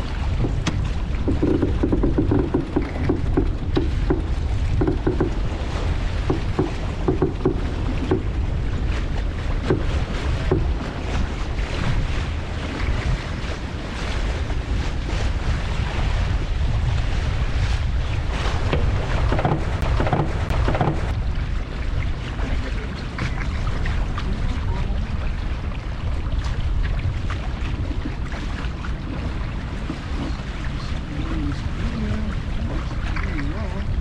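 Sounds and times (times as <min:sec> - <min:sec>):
water splashing along hull: 0:00.0 - 0:34.0
wind buffeting microphone: 0:00.0 - 0:34.0.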